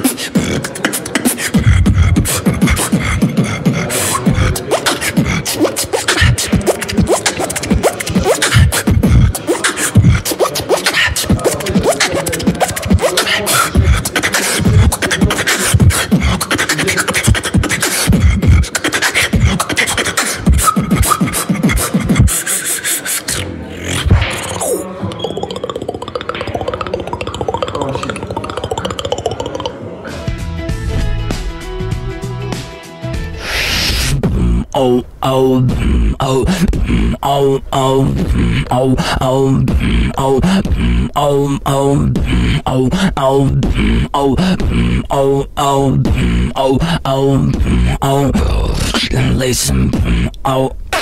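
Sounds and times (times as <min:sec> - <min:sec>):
person beatboxing: 0:00.0 - 0:32.6, 0:33.2 - 0:51.0.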